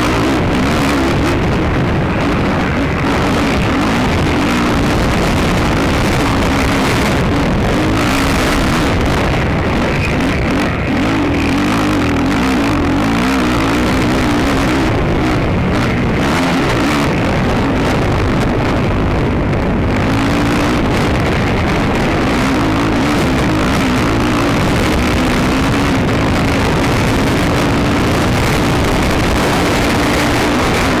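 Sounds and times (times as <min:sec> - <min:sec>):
atv engine running under load: 0:00.0 - 0:31.0.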